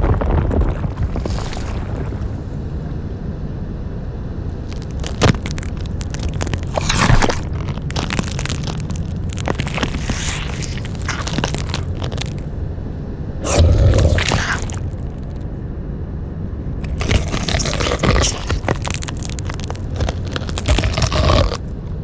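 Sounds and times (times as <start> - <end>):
monster crunching and scraping: 0.0 - 2.7, 4.5 - 12.6, 13.4 - 15.5, 16.8 - 22.0
low rumble: 0.0 - 22.0.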